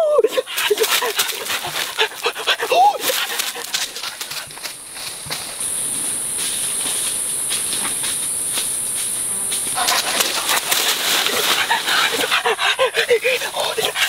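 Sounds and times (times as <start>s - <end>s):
insect buzzing: 0.2s - 14.0s
leafy branches rustling on leaves: 0.3s - 14.0s
crackles: 0.5s - 14.0s.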